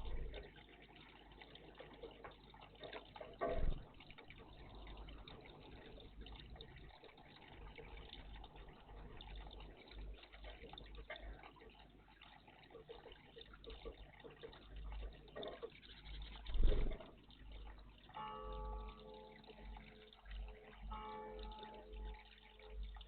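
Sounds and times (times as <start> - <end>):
water splashing in bird bath: 0.0 - 23.0.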